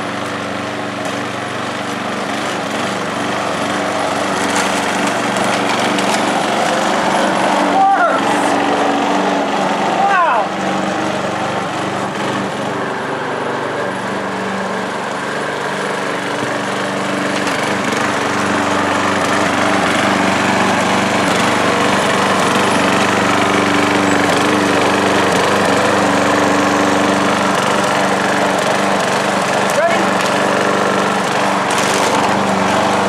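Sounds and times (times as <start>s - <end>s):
lawn mower engine running: 0.0s - 33.0s.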